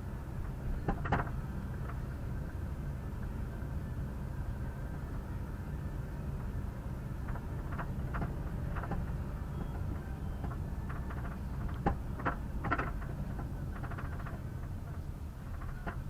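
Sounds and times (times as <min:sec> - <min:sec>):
vehicle rumbling under way: 0:00.0 - 0:16.0.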